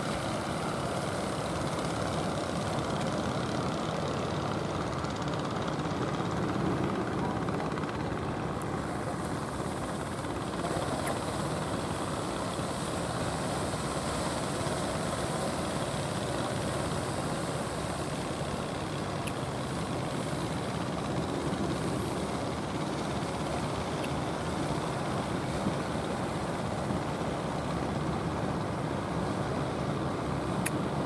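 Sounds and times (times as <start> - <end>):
boat engine droning: 0.0 - 31.0
constant wash of noise: 0.0 - 31.0.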